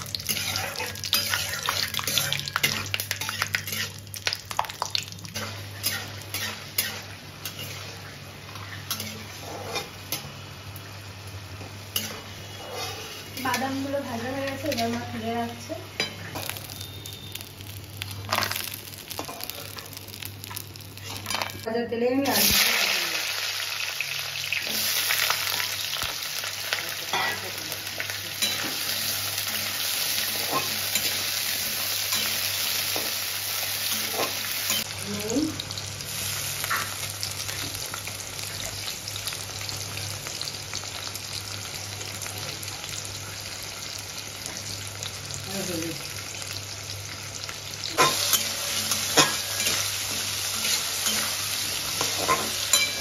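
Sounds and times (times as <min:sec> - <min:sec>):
potatoes sizzling in oil: 0:00.0 - 0:53.0.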